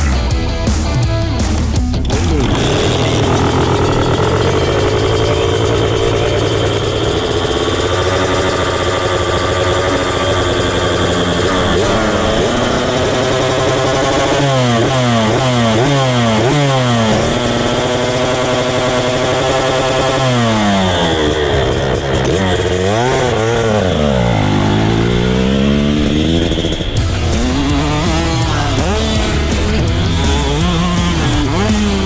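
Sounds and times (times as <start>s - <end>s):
dirt bike engine accelerating: 0.0s - 32.0s.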